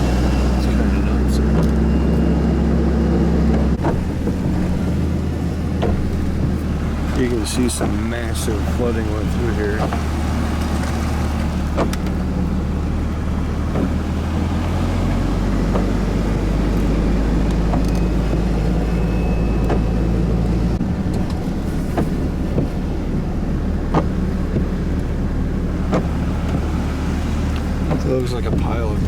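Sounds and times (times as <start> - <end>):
car engine drone: 0.0 - 29.0.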